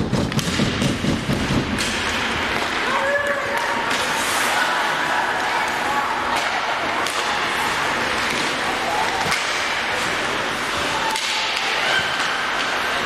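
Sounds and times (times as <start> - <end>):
hockey sticks and puck clacking: 0.0 - 13.0
skate blades scraping ice: 0.1 - 13.0.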